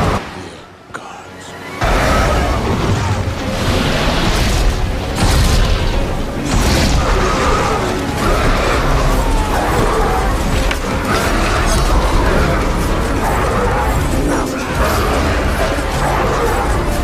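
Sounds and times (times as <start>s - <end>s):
dramatic music: 0.0s - 17.0s
crashing sound effects: 1.8s - 16.4s
heavy rumbling booms: 1.8s - 17.0s.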